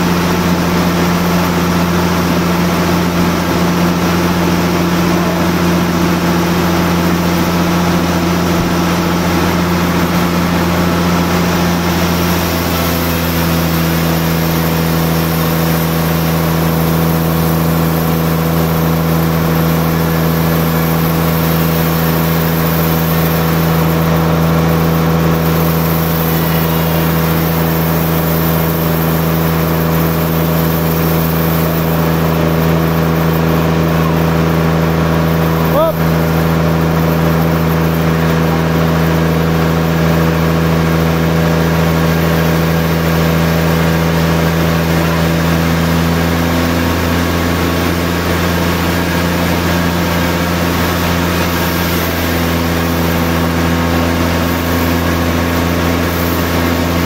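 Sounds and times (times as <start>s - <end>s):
band sawmill running: 0.0s - 57.0s
diesel engine droning: 0.0s - 57.0s.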